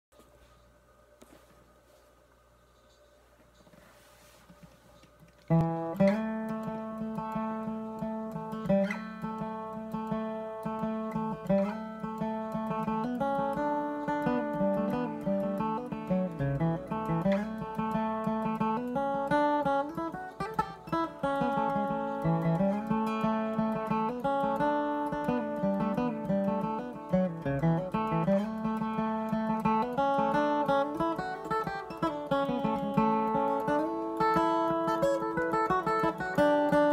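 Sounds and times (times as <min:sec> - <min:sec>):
acoustic guitar strumming chords: 0:05.5 - 0:36.9
single-note guitar picking: 0:05.5 - 0:36.9.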